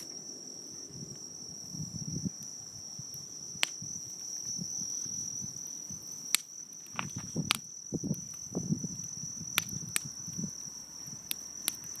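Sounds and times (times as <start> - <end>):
campfire crackling: 0.0 - 12.0
fire popping: 0.0 - 12.0
insects trilling: 0.0 - 12.0.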